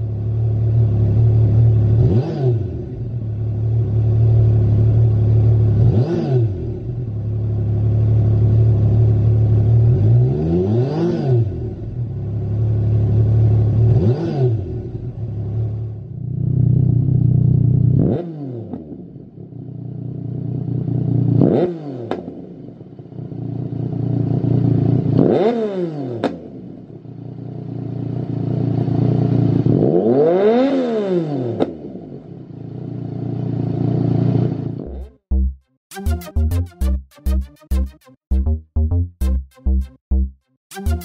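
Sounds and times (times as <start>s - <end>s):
motorcycle engine revving: 0.0s - 35.5s.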